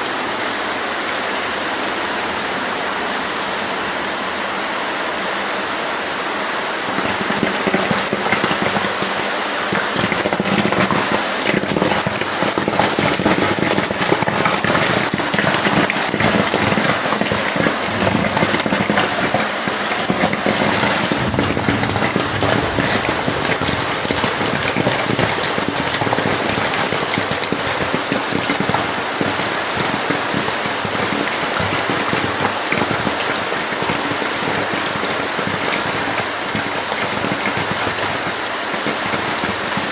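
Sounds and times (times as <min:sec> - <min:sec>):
drain water rushing and splashing: 0:04.5 - 0:39.9.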